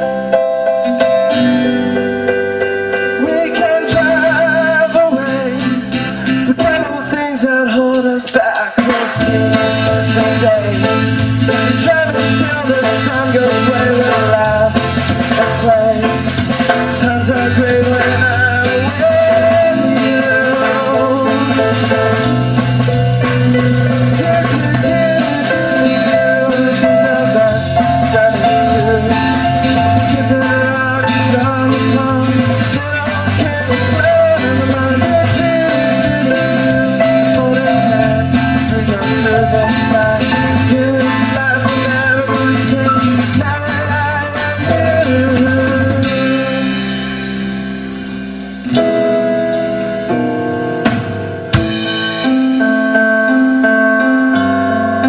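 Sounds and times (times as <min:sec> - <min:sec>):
acoustic guitar strumming: 0:00.0 - 0:55.0
drum kit: 0:00.0 - 0:55.0
sustained keyboard notes: 0:09.2 - 0:55.0.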